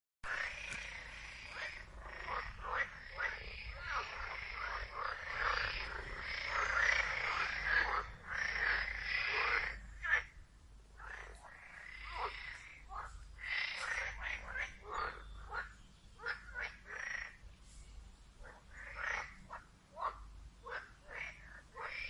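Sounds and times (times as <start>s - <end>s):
chorus of frogs croaking: 0.2s - 17.4s, 18.4s - 22.0s.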